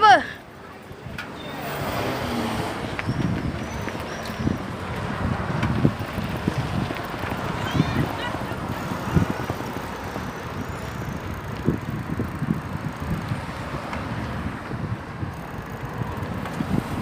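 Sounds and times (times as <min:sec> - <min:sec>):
wind rushing over microphone: 0:01.0 - 0:17.0.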